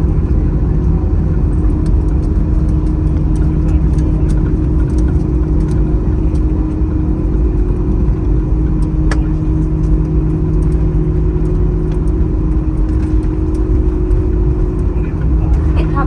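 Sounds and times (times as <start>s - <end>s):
aircraft engine hum: 0.0s - 16.0s
wheels rumbling on runway: 0.0s - 16.0s.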